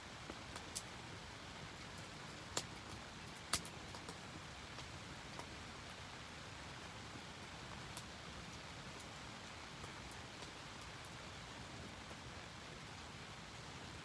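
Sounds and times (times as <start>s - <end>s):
rain falling: 0.1s - 14.0s.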